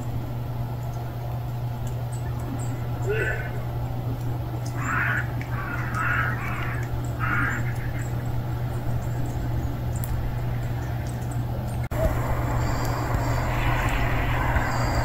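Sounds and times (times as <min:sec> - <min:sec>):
steady low hum: 0:00.0 - 0:15.0
bird calling: 0:02.0 - 0:15.0.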